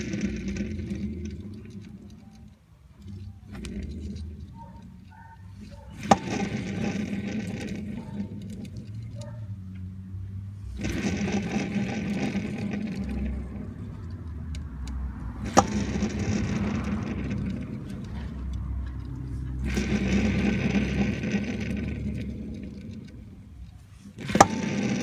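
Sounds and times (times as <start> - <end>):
mechanical whirring: 0.0 - 25.0.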